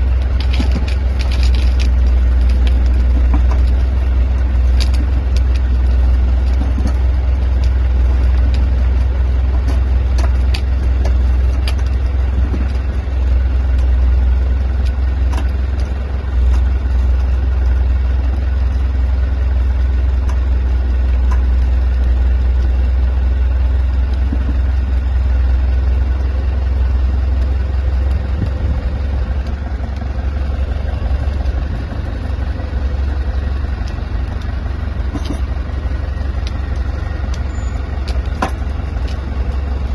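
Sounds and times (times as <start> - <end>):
engine rumbling: 0.0 - 39.9.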